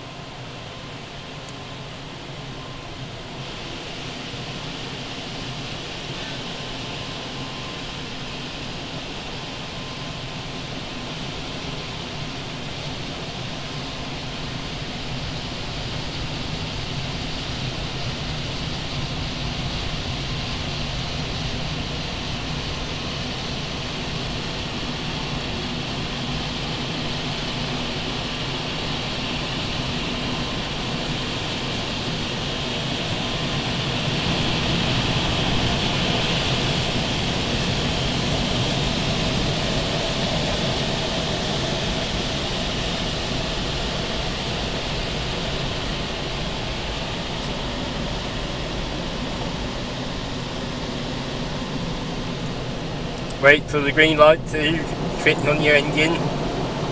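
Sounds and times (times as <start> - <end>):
low hum: 0.0 - 56.9.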